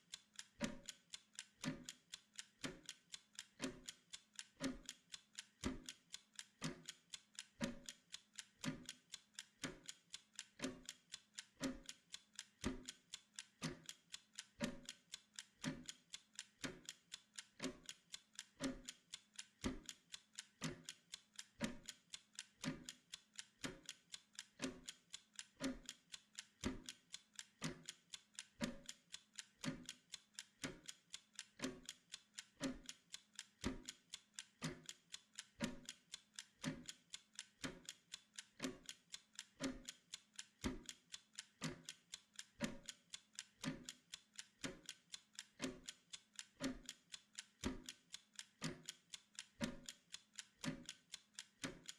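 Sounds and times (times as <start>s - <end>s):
timer ticking: 0.0s - 51.9s.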